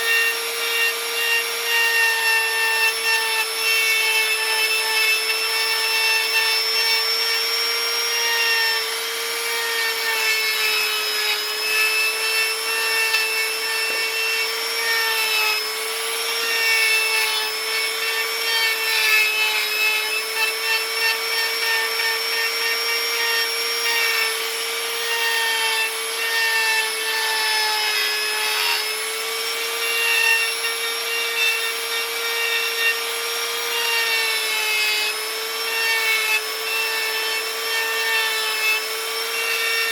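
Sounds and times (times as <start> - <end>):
power tool grinding wood: 0.0 - 39.9.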